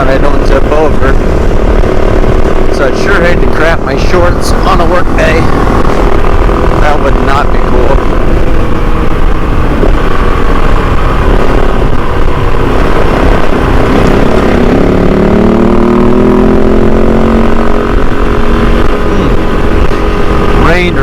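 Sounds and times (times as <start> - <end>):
motorcycle engine running: 0.0 - 21.0
wind noise on microphone: 0.0 - 21.0.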